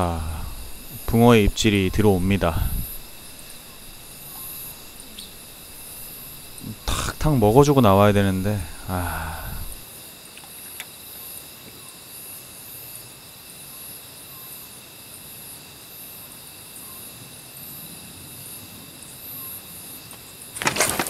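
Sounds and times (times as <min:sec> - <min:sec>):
faint hiss: 0:00.0 - 0:20.5
crickets chirping: 0:00.0 - 0:21.0.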